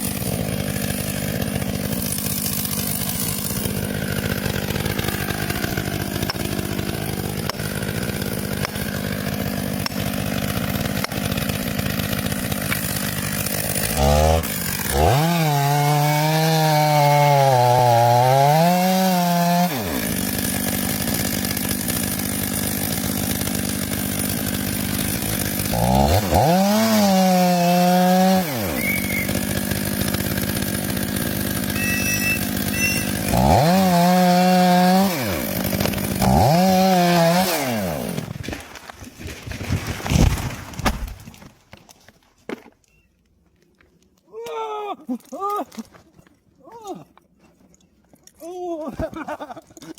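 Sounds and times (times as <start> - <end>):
chainsaw revving: 0.0 - 41.2.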